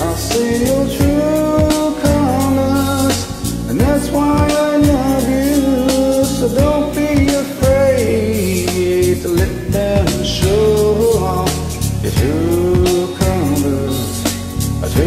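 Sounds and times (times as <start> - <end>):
slow pop ballad music: 0.0 - 15.0.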